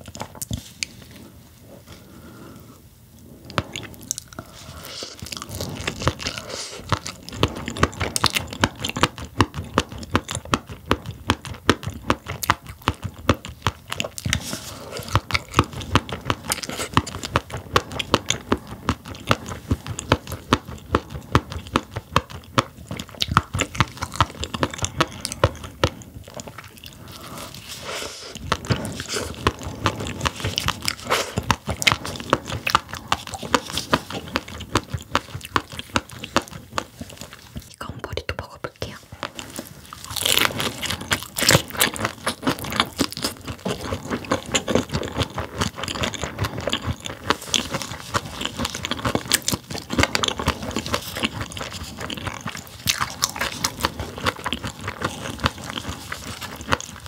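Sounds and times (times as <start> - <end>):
crunchy chewing of fish roe: 0.0 - 37.8, 38.4 - 57.0.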